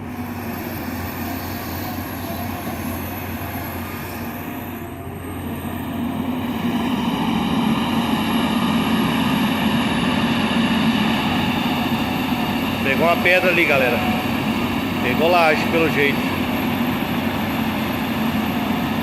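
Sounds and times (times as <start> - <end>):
excavator engine and hydraulics: 0.0 - 19.0.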